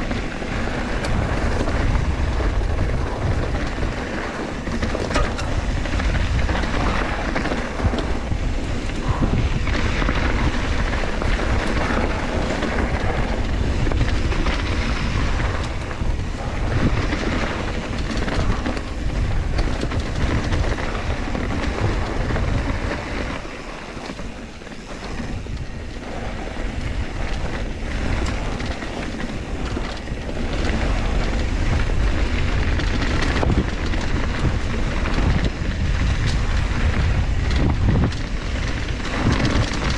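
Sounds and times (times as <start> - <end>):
bike rattling over bumps: 0.0 - 39.9
tyres rolling on dirt: 0.0 - 39.9
wind rushing over microphone: 0.0 - 39.9.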